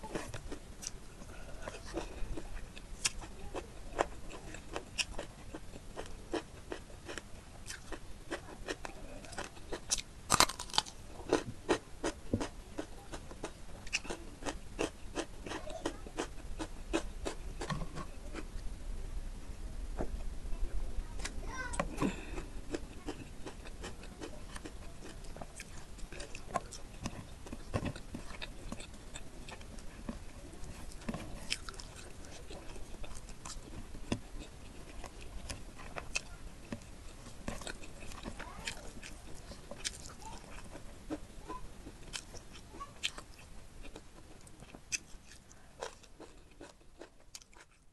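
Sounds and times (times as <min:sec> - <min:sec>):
wet chewing with mouth clicks: 0:00.0 - 0:18.6, 0:21.2 - 0:47.9.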